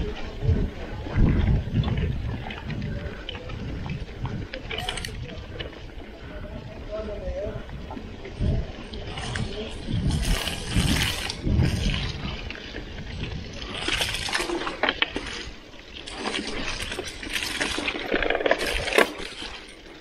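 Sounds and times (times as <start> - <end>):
bike tyres squelching through mud: 0.0 - 20.0.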